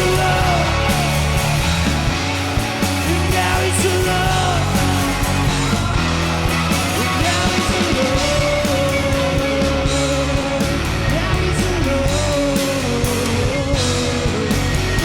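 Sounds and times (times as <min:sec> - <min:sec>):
person singing: 0:00.0 - 0:02.0, 0:03.0 - 0:06.0, 0:06.7 - 0:15.0
live rock band playing: 0:00.0 - 0:15.0.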